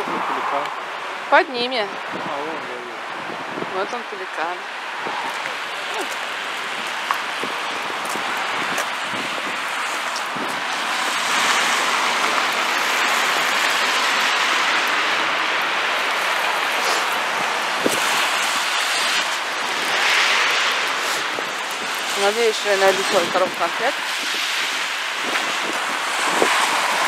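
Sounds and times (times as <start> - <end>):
tyres hissing on wet road: 0.0 - 27.0.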